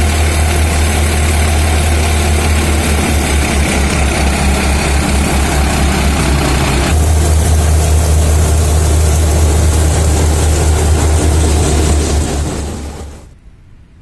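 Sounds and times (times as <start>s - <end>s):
harvester engine humming: 0.0s - 13.3s.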